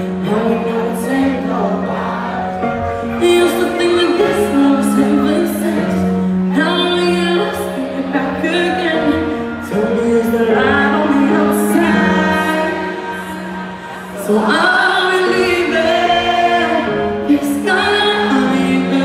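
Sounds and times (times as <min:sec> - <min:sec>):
live pop band playing: 0:00.0 - 0:19.0
woman singing: 0:00.0 - 0:19.0.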